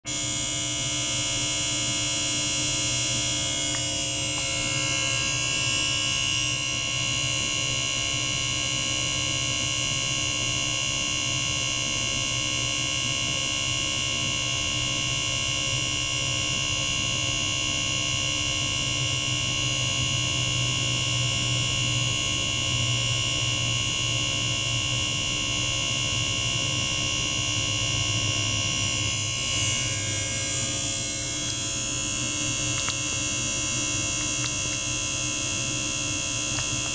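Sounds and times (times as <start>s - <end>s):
electric pump motor buzzing: 0.0s - 36.9s.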